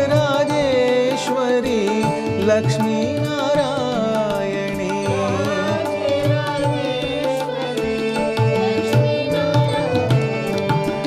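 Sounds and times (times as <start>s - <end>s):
harmonium holding notes: 0.0s - 11.0s
tabla drumming: 0.0s - 11.0s.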